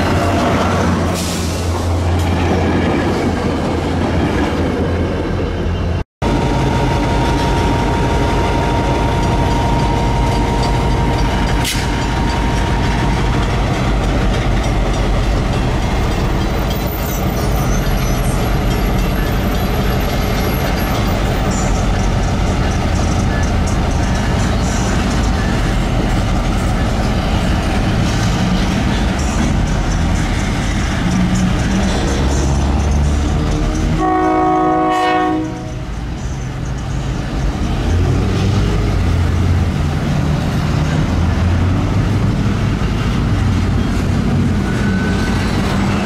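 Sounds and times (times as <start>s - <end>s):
diesel locomotive engine drone: 0.0s - 46.0s
train cars rolling on rails: 0.0s - 46.0s.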